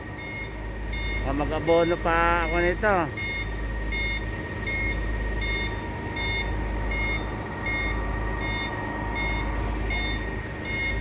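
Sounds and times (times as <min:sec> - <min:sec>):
reversing alarm beeping: 0:00.0 - 0:11.0
truck engine running: 0:00.0 - 0:11.0.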